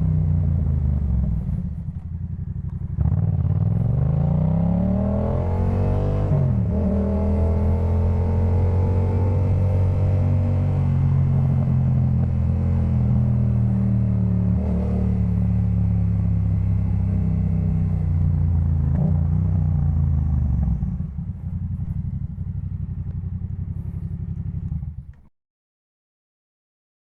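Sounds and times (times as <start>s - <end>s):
motorcycle engine running: 0.0s - 25.3s.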